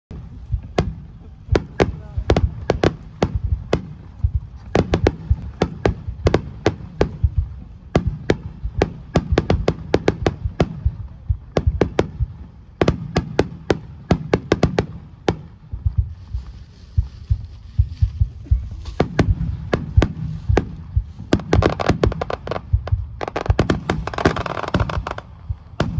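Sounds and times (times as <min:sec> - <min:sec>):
fireworks bangs: 0:00.1 - 0:16.5, 0:18.4 - 0:25.9
low rumble: 0:00.1 - 0:25.9.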